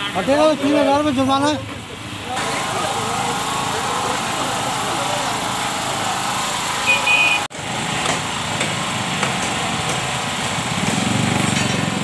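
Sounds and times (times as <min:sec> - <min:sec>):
street traffic: 0:00.0 - 0:12.0
small engines running: 0:02.2 - 0:12.0.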